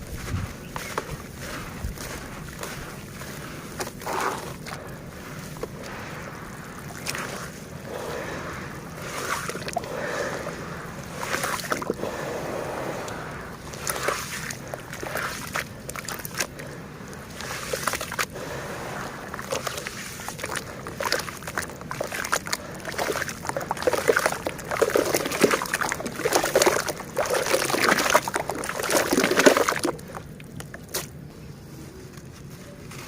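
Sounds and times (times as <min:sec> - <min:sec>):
dirt crumbling in water: 0:00.0 - 0:31.2
water sloshing and gurgling: 0:00.0 - 0:31.3.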